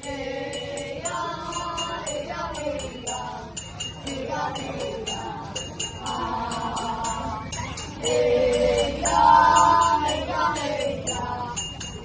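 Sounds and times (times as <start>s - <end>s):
high jingling tick: 0.0s - 12.0s
melody sung or played: 0.0s - 12.0s.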